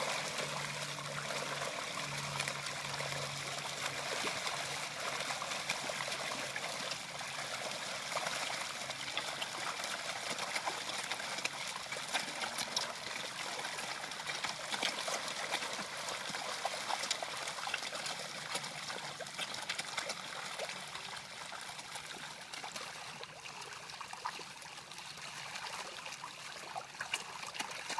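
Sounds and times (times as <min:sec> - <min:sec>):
water trickling and splashing: 0:00.0 - 0:27.9.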